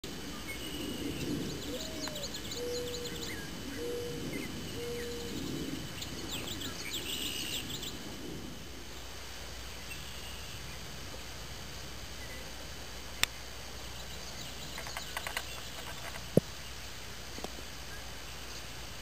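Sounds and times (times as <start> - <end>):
birds chirping: 0.1 - 8.3, 8.9 - 11.3, 12.1 - 18.9.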